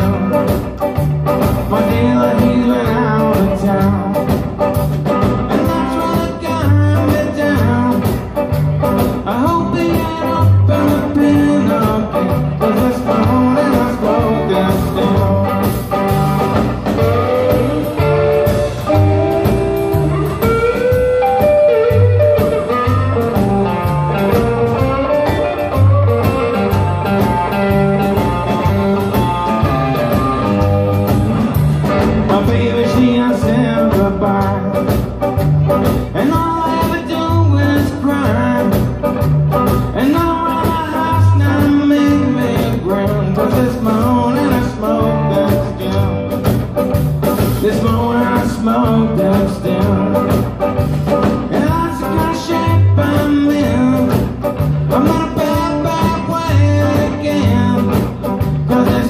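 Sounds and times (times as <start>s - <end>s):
live blues rock band: 0.0s - 59.0s
walking bass line: 0.0s - 59.0s.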